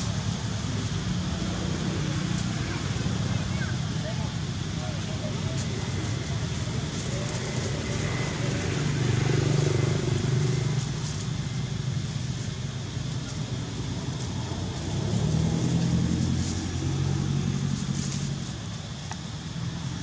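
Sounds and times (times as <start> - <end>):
low vehicle engine hum: 0.0 - 20.0.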